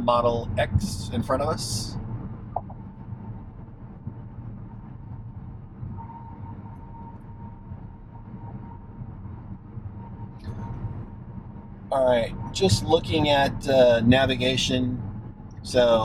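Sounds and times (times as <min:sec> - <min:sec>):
faint steady whine: 0:00.0 - 0:16.0
road and tyre rumble: 0:00.0 - 0:16.0.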